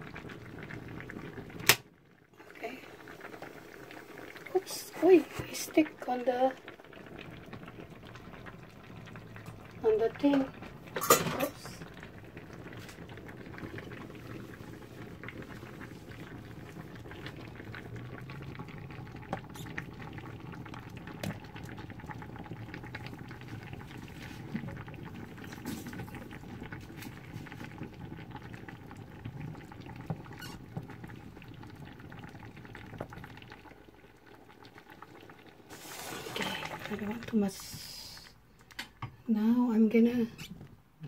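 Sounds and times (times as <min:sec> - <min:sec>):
soup bubbling in a pot: 0:00.0 - 0:41.0.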